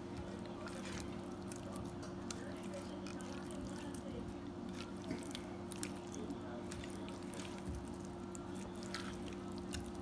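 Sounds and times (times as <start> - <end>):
spatula tossing wet potatoes: 0.0 - 10.0
steady low hum: 0.0 - 10.0.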